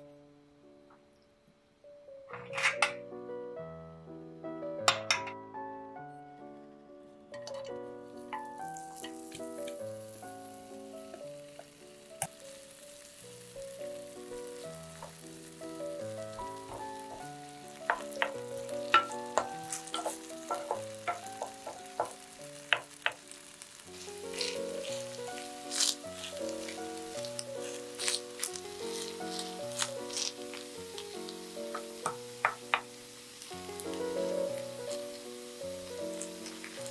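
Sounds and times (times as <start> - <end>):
background music: 0.0 - 36.9
potato sizzling with crackling pops: 7.3 - 36.9.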